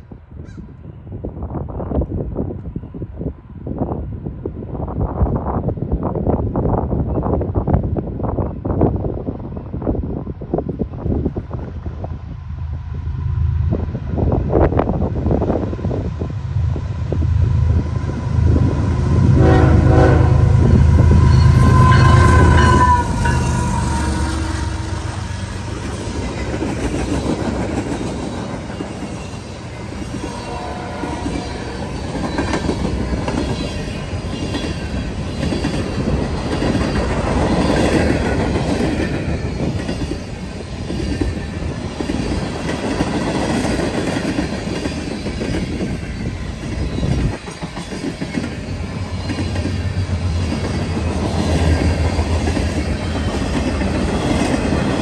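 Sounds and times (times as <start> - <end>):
steel wheels rumbling on rail: 1.1 - 55.0.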